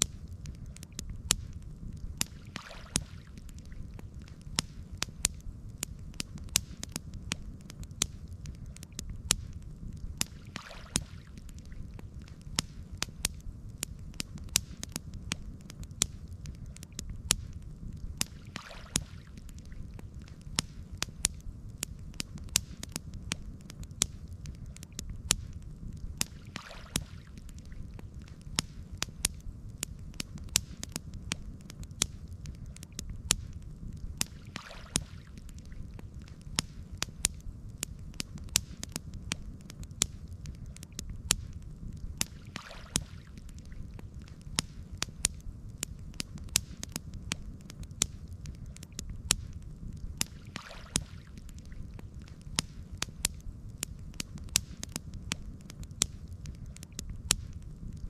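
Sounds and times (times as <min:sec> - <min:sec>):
campfire crackling and popping: 0:00.0 - 0:58.0
low steady rumble: 0:00.0 - 0:58.0.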